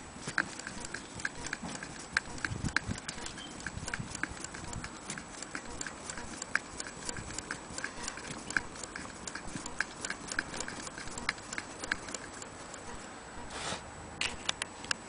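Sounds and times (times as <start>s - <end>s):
sewing machine clicking: 0.0s - 13.0s.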